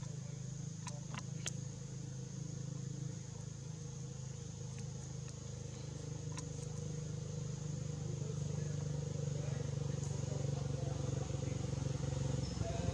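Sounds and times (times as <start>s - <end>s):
high-pitched insect drone: 0.0s - 12.9s
low engine-like hum: 0.0s - 12.9s.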